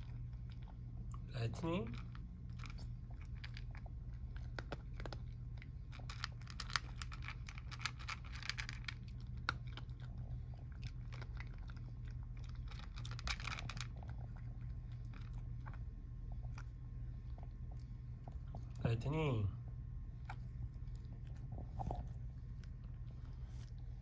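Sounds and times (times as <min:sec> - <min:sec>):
cat crunching dry kibble: 0:00.0 - 0:18.9, 0:20.2 - 0:24.0
steady low hum: 0:00.0 - 0:24.0.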